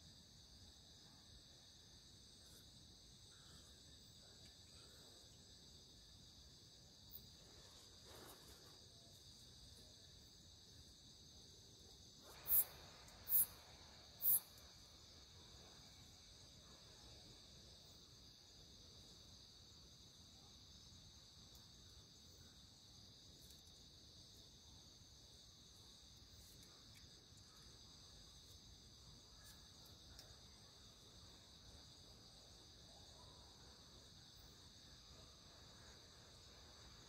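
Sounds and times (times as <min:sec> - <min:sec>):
night insects trilling: 0:00.0 - 0:37.0.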